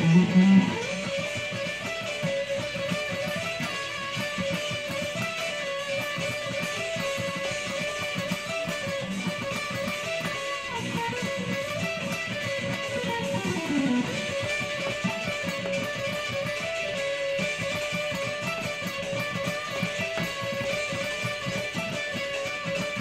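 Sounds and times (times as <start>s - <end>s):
electric guitar fast picked run: 0.0s - 23.0s.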